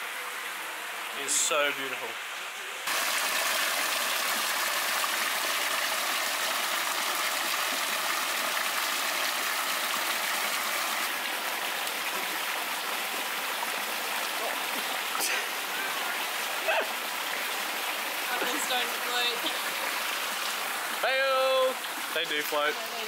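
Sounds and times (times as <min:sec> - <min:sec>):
water splashing into pool: 0:02.8 - 0:23.0.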